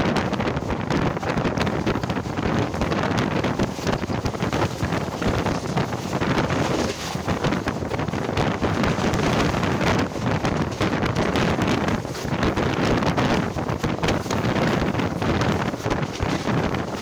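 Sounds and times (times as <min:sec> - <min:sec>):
train rushing on track: 0:00.0 - 0:17.0
wind buffeting microphone: 0:00.0 - 0:17.0.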